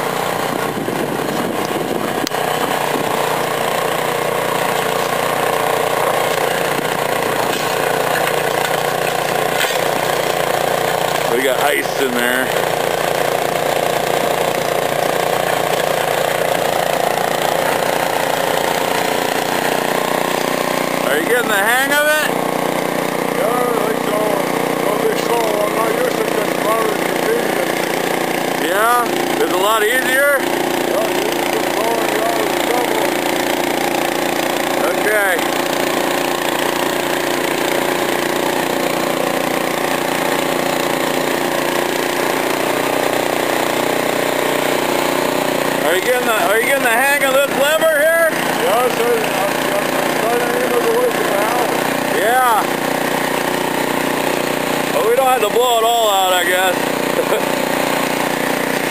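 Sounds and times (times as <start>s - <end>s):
snowblower engine running: 0.0s - 58.9s.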